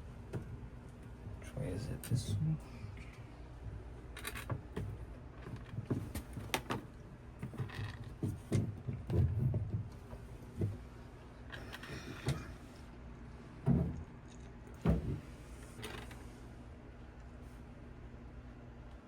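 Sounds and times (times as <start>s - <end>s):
low rumble of handling noise: 0.0s - 19.0s.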